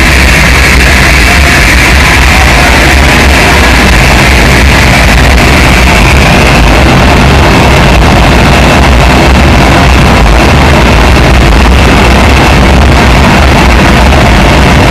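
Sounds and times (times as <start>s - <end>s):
electronic noise music: 0.0s - 14.9s.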